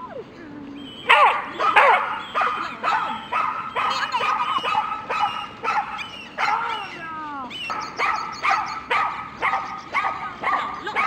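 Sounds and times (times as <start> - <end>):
dog barking high yips: 1.0 - 11.0.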